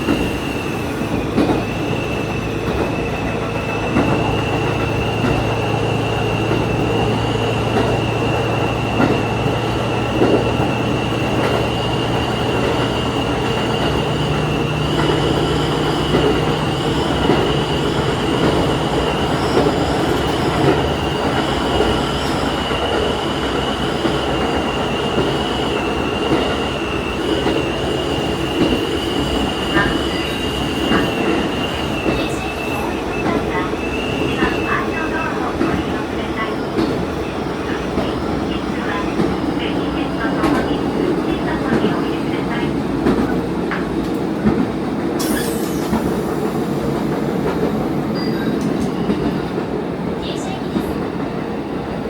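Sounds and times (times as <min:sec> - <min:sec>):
wheel and track rumble: 0:00.0 - 0:51.5
diesel railcar engine drone: 0:00.0 - 0:51.9.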